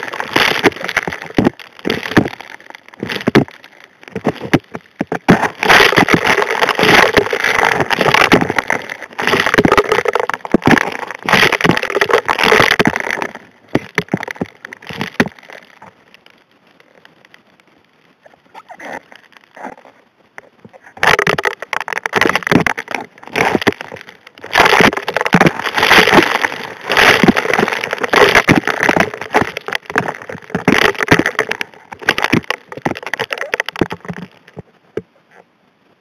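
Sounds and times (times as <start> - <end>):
gravel clattering underwater: 0.0 - 17.5, 18.1 - 35.4.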